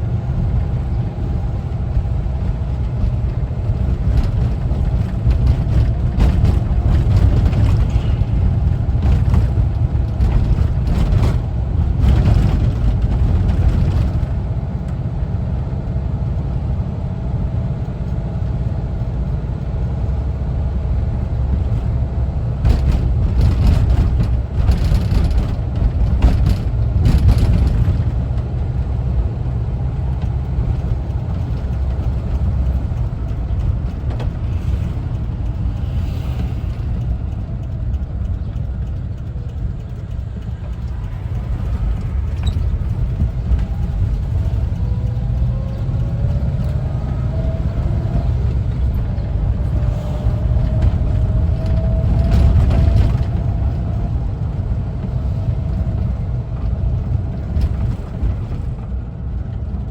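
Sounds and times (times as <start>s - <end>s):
van engine and road rumble: 0.0s - 59.9s
knocks and rattles: 2.8s - 14.4s, 21.4s - 59.0s.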